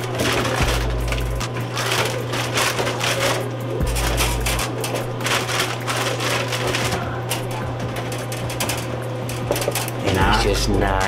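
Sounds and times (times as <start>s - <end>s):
plastic bottles clattering: 0.0s - 10.6s
steady low hum: 0.0s - 11.0s.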